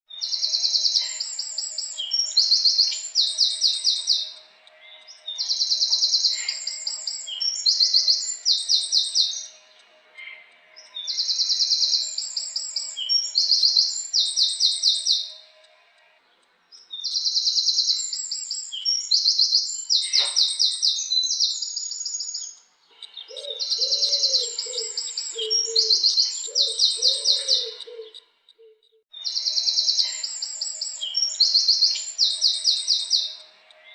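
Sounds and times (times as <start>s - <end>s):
wren singing trills: 0.1s - 15.7s, 16.6s - 33.9s.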